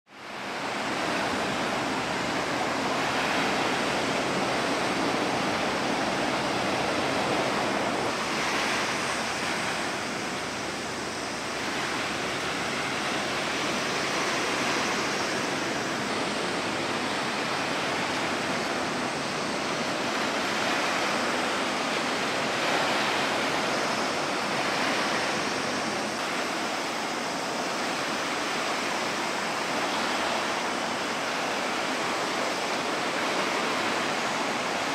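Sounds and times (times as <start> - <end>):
wind: 0.0 - 34.9
choppy sea water splashing: 0.1 - 34.9.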